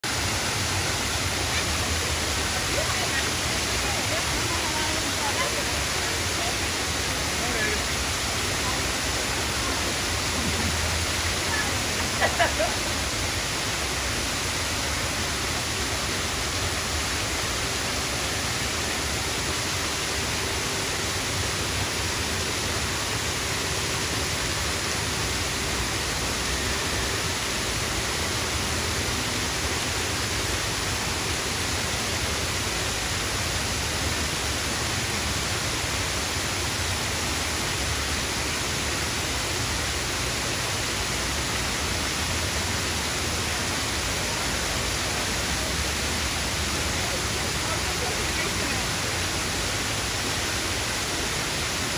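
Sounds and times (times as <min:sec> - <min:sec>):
small waterfall rushing: 0:00.0 - 0:51.9.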